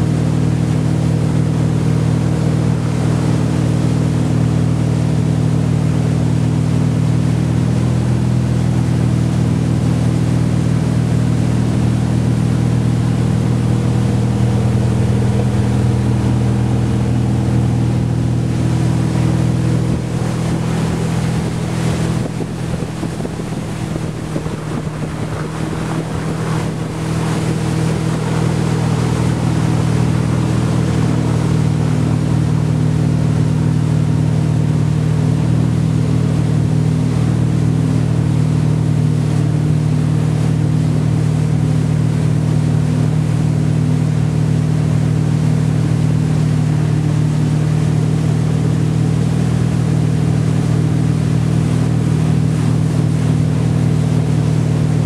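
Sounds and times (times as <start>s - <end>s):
motorboat engine running: 0.0s - 55.0s
wake water rushing: 0.0s - 55.0s.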